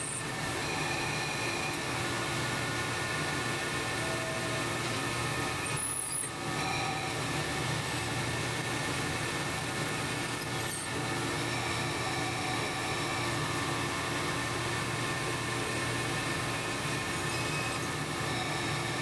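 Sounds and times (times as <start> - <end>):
drill whining tones: 0.0 - 19.0
lathe machine hum: 0.0 - 19.0.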